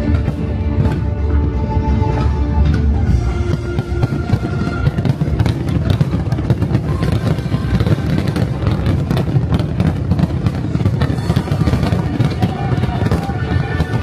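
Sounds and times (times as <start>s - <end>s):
fireworks bursting and crackling: 0.0s - 1.1s, 2.1s - 14.0s
music playing: 0.0s - 14.0s.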